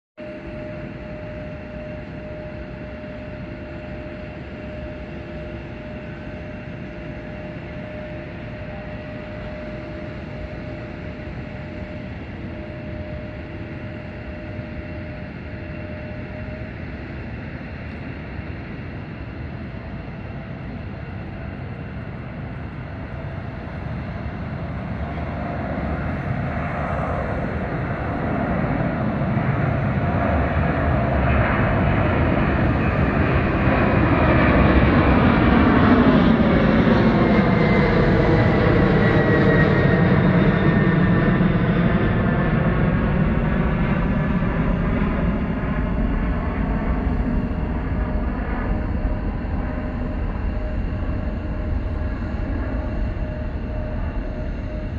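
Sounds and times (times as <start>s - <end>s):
jet engine rumble: 0.2s - 54.9s.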